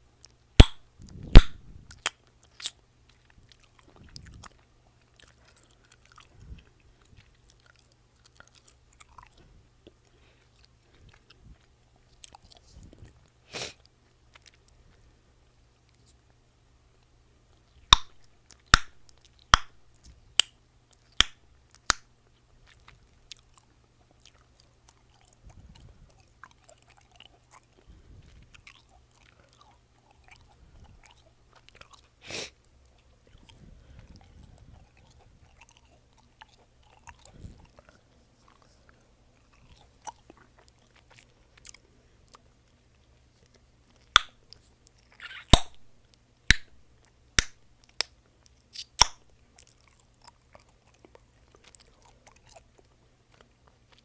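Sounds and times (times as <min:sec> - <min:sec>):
soft wet chewing: 0:00.0 - 0:54.0
chewing gum popping: 0:00.2 - 0:12.6, 0:16.9 - 0:38.7, 0:39.4 - 0:54.0.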